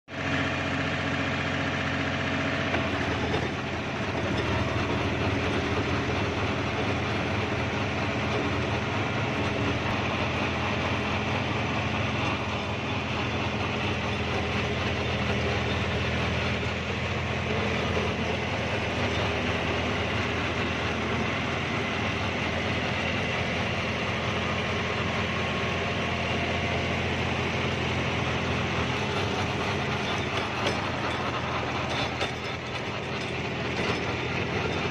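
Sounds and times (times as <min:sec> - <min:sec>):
rotary tiller churning soil: 0:00.1 - 0:34.9
tractor diesel engine running: 0:00.1 - 0:34.9.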